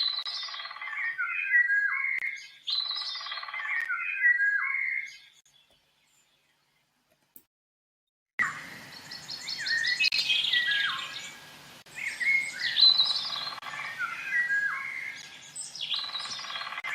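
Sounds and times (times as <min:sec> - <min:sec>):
songbird singing warbled notes: 0:00.0 - 0:06.8, 0:08.4 - 0:16.9.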